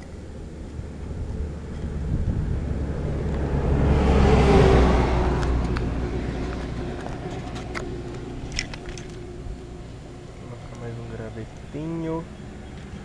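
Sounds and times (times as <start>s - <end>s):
low rumble: 0.0s - 13.0s
road vehicle passing: 0.0s - 13.0s.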